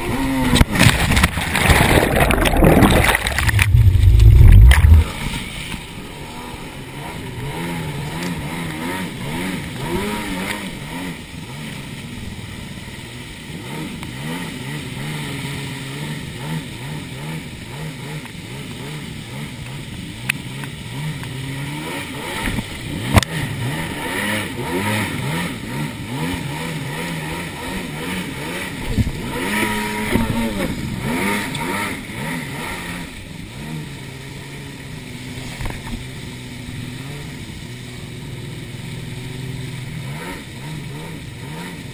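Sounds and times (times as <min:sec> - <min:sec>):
jet ski engines revving: 0:00.0 - 0:41.9.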